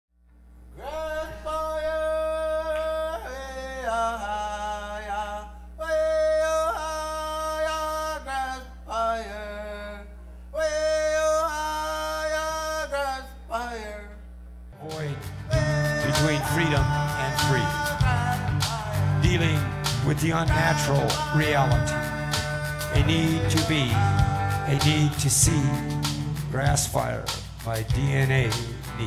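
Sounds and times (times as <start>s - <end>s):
steady low hum: 0.2s - 29.0s
man singing chant-like: 0.8s - 14.2s, 14.8s - 29.0s.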